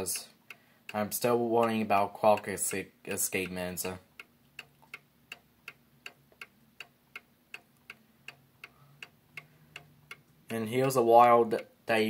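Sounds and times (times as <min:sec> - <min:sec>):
mantle clock ticking: 0:00.0 - 0:11.8.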